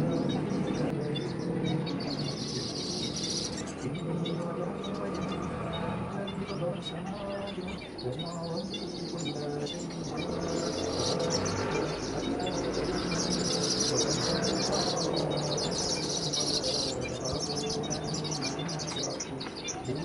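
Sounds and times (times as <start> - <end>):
birds chirping chatter: 0.0 - 20.0.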